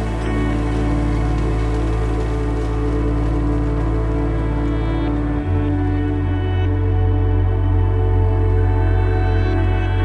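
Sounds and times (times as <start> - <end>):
ambient background music: 0.0 - 10.0.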